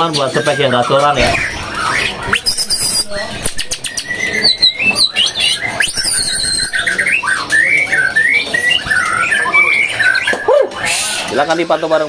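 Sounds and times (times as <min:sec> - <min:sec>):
bird singing whistled phrases: 0:00.0 - 0:11.2.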